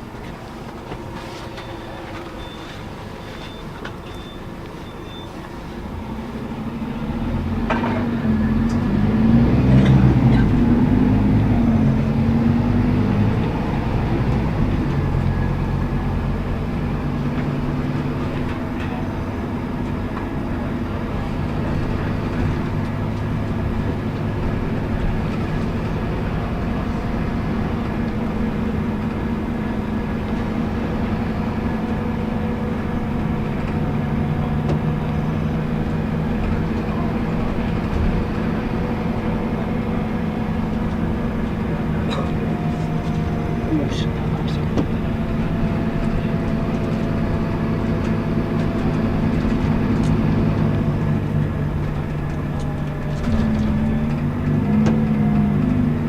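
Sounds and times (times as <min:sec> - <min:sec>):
bus diesel engine revving: 0:04.5 - 0:56.0.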